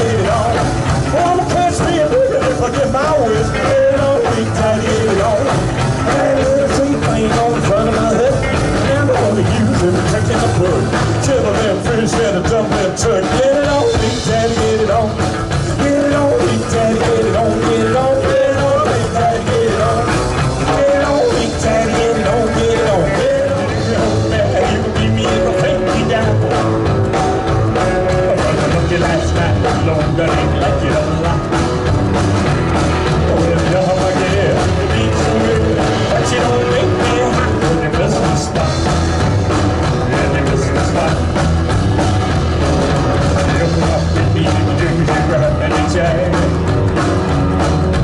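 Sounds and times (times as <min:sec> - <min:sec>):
rock and roll band playing: 0:00.0 - 0:48.0.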